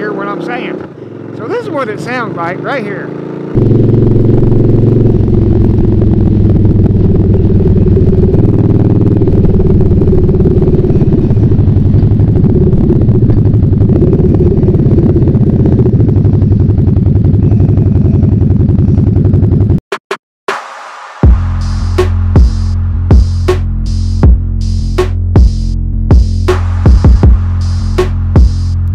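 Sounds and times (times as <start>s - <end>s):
motorcycle exhaust drone: 0.0s - 19.8s, 21.2s - 28.9s.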